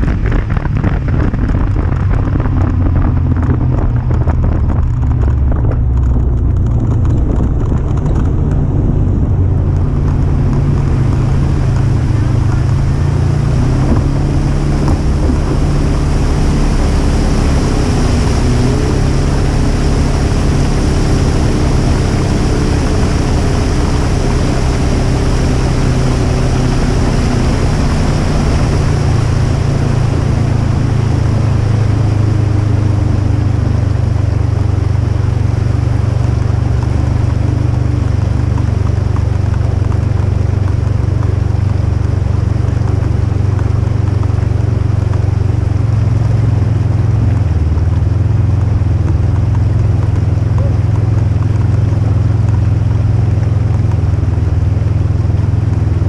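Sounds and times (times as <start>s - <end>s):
off-road vehicle engine running: 0.0s - 56.0s
rushing wash of noise: 0.0s - 56.0s.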